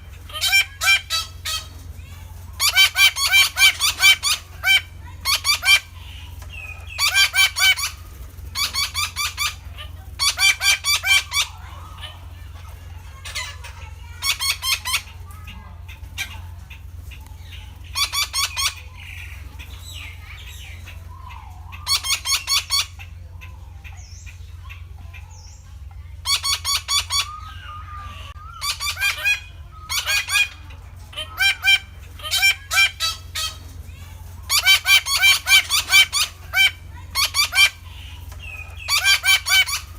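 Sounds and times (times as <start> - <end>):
parakeets calling: 0.0 - 39.9
steady low hum: 0.0 - 39.9.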